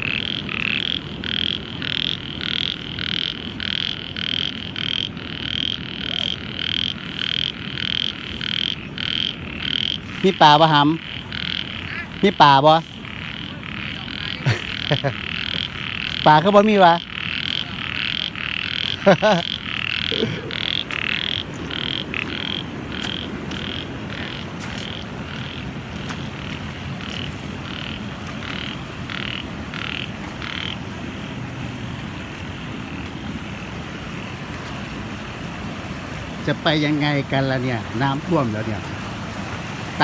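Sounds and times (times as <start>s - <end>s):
frogs croaking: 0.0s - 40.0s.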